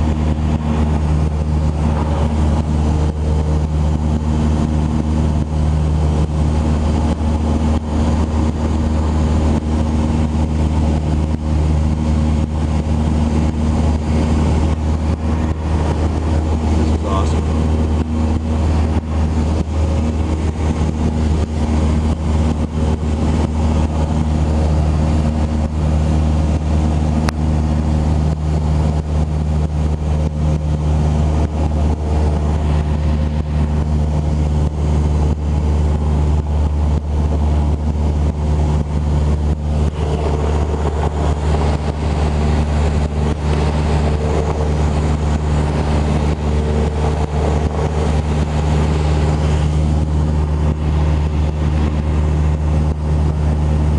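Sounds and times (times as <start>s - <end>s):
propeller plane engine drone: 0.0s - 53.9s.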